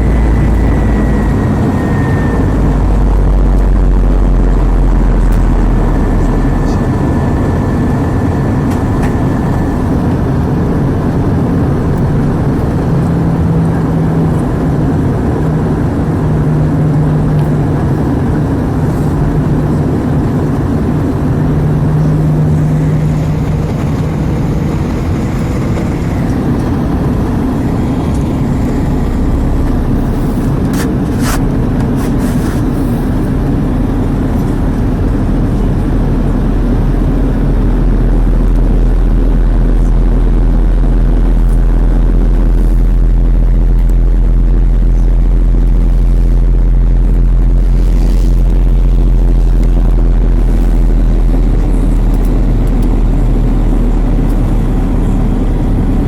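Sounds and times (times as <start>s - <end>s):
aircraft cabin engine drone: 0.0s - 56.0s
deep rumble: 0.0s - 56.0s
low hum: 0.0s - 56.0s.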